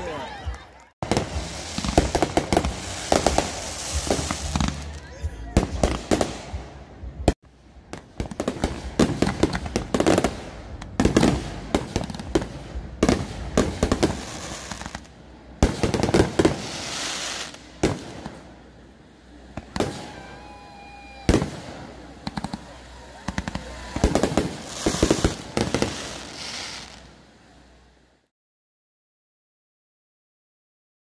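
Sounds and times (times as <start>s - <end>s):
fireworks bangs with crackling: 0.0s - 18.7s, 19.5s - 27.1s
fireworks hissing: 0.0s - 28.3s.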